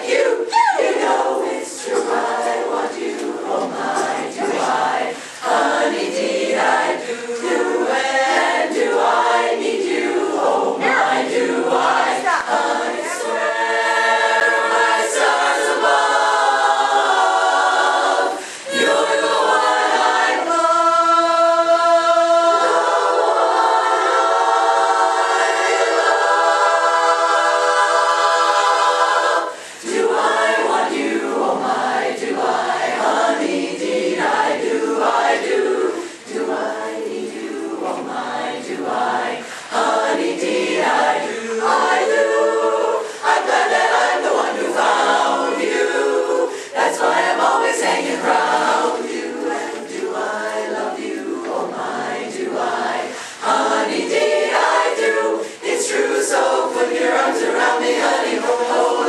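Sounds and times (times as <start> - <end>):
women's chorus singing: 0.0 - 59.0.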